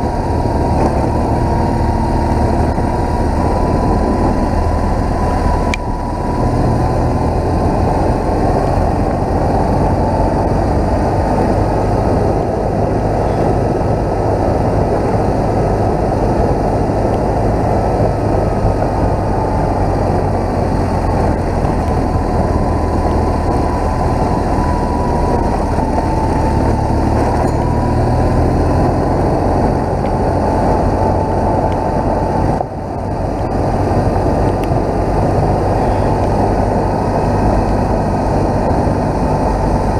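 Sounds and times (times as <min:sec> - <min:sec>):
motorcycle engine: 0:00.0 - 0:39.9
wind rush: 0:00.0 - 0:39.9.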